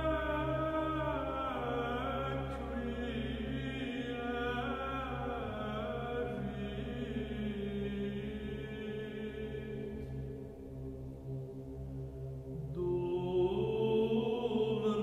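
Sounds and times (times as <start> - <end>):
chant-like singing of a prayer: 0.0 - 10.4, 12.6 - 15.0
sustained musical drone: 0.0 - 15.0.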